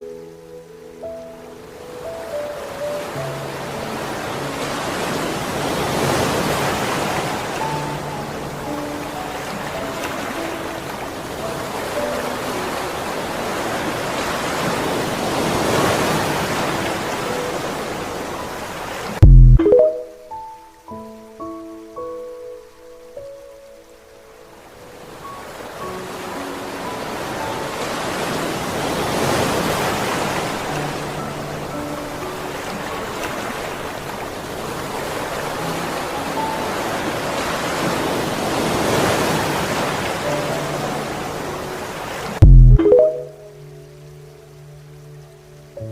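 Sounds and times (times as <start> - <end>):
ocean waves washing in: 0.0 - 22.1, 22.7 - 45.9
rushing water: 0.0 - 45.9
soft background music: 0.0 - 45.9.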